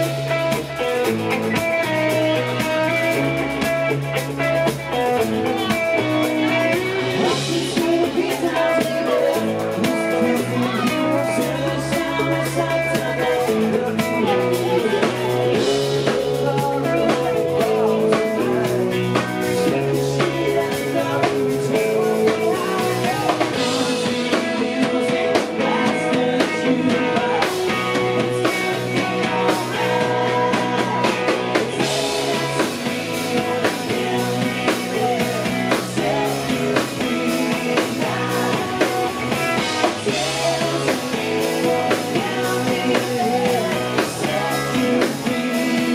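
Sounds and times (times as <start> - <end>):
bass guitar: 0.0 - 45.9
drum kit beat: 0.0 - 45.9
electric guitars: 0.0 - 45.9
man singing lead: 0.0 - 45.9.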